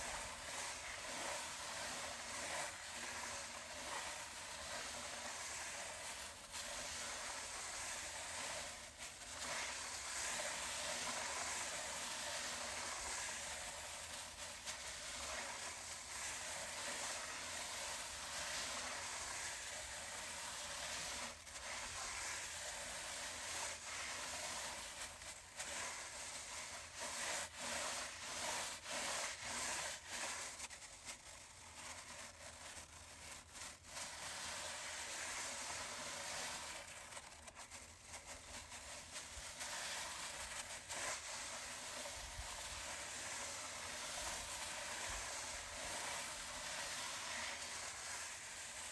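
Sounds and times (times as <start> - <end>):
brush scrubbing a chair: 0.0 - 48.9.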